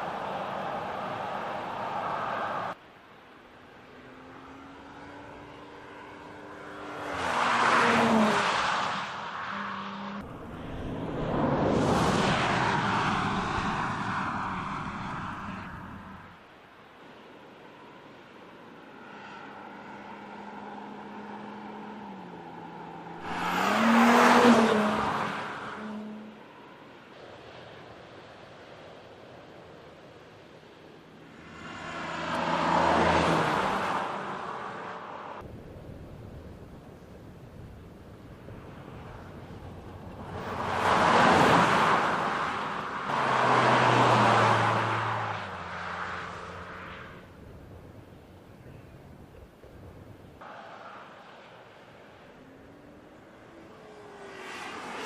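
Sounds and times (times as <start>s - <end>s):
car tyre noise passing: 0.0s - 2.9s, 3.6s - 16.4s, 17.2s - 55.0s.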